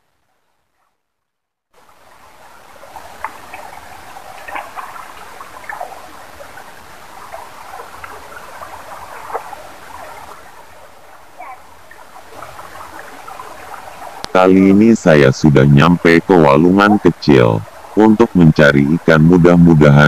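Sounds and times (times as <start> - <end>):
stream trickling over stones: 1.8 - 20.0
water splashes: 1.8 - 20.0.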